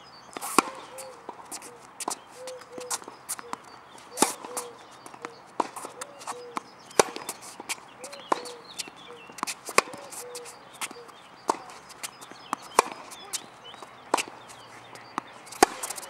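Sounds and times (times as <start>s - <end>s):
tennis ball bouncing: 0.4s - 16.0s.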